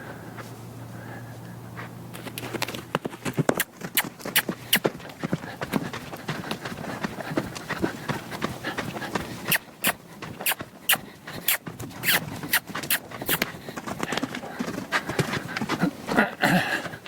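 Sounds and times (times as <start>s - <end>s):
horse hoofbeats on open ground: 1.8s - 17.0s.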